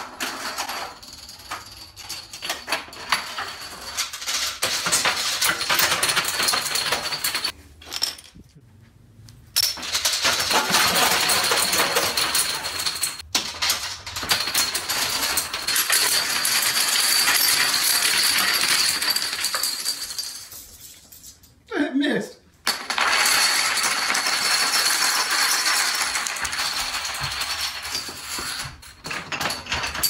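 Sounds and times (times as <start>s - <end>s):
dominoes toppling clatter: 0.0s - 7.5s, 9.7s - 21.3s, 22.7s - 30.0s.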